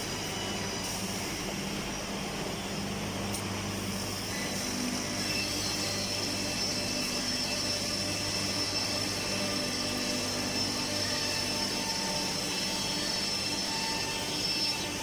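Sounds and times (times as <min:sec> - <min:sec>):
thin high whine: 0:00.0 - 0:15.0
woodworking machinery humming: 0:00.0 - 0:15.0.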